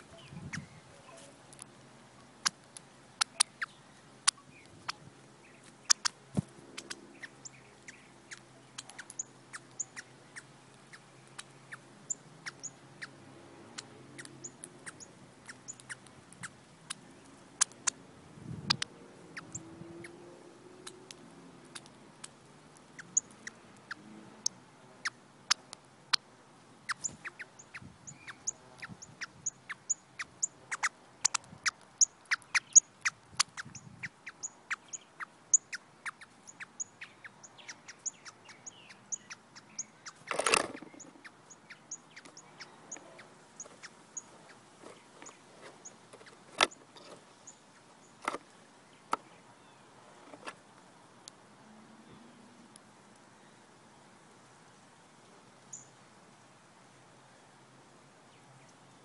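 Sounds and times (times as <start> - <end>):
bird pecking seed on concrete: 0.0 - 5.0, 5.6 - 18.0, 18.6 - 26.2, 26.9 - 51.4.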